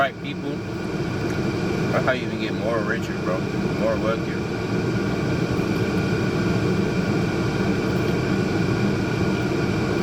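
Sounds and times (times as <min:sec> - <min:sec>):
low mechanical hum and rumble: 0:00.0 - 0:10.0.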